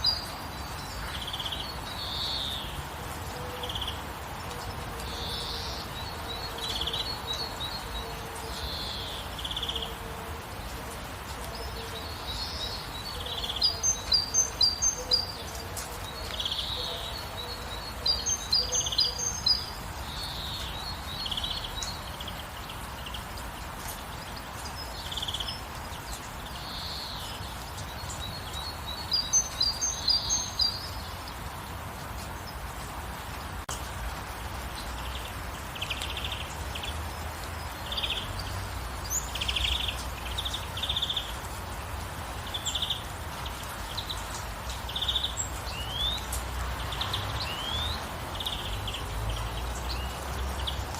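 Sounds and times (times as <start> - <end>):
songbirds chirping: 0.0 - 50.9
steady background hiss: 0.0 - 50.9.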